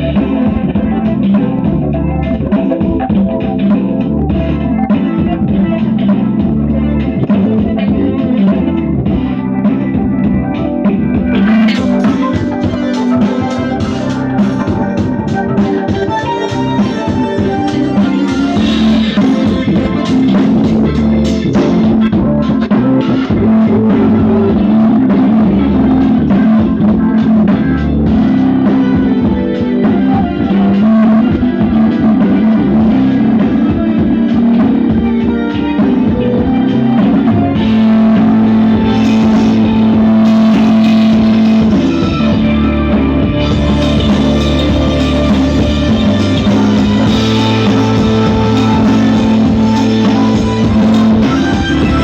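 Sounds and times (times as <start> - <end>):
rock music through loudspeaker: 0.0 - 52.0.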